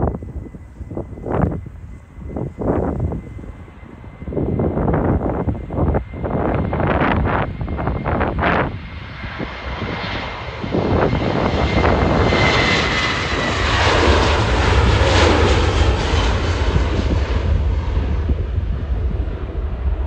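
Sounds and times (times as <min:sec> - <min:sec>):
high whine: 0:00.0 - 0:20.0
jet engines roaring: 0:00.0 - 0:20.0.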